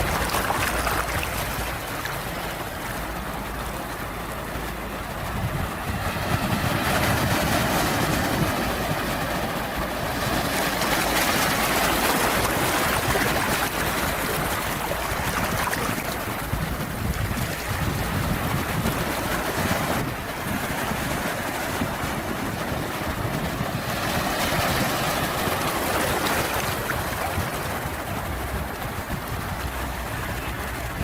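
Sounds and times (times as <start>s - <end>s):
sea waves washing in: 0.0s - 31.0s.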